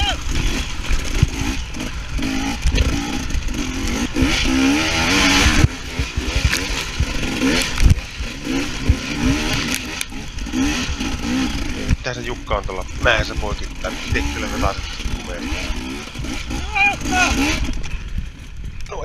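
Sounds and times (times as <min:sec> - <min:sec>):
dirt bike engine revving: 0:00.0 - 0:18.8
wheels and suspension knocking: 0:00.2 - 0:16.6.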